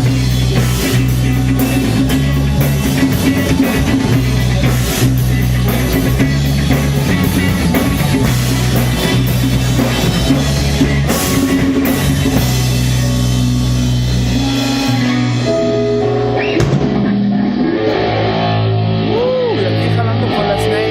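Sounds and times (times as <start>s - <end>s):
drum kit: 0.0s - 19.3s
bass guitar: 0.0s - 20.9s
electric guitar: 0.0s - 20.9s.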